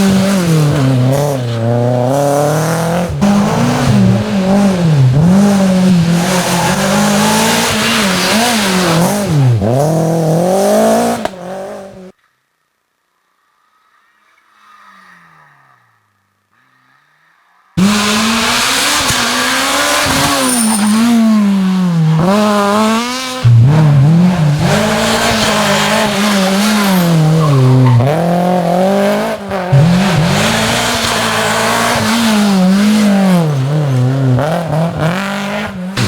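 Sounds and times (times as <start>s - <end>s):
rally car engines revving: 0.0s - 12.2s, 17.8s - 36.0s.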